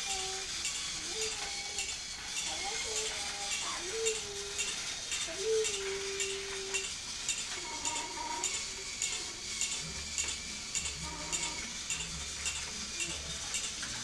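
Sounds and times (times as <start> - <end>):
toy train mechanism clicking: 0.0 - 14.0.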